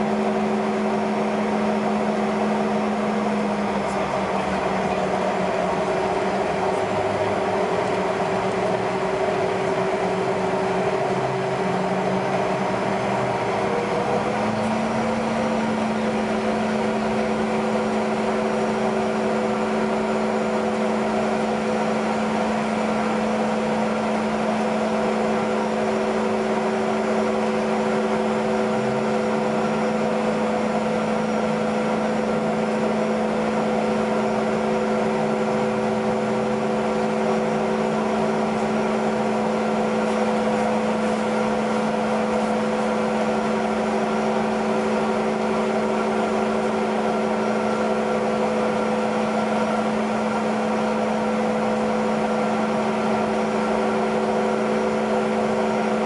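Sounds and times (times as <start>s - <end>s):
jet engines idling drone: 0.0s - 56.0s.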